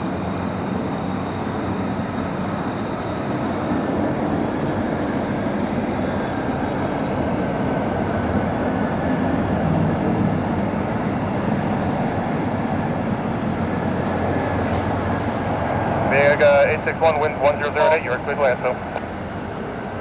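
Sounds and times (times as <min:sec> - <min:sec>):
jet engine rumble: 0:00.0 - 0:08.9, 0:09.8 - 0:20.0.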